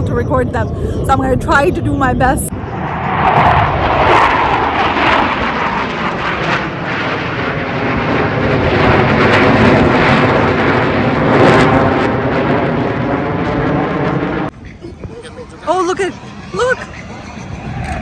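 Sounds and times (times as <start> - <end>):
loud jet engine noise: 0.0 - 18.0.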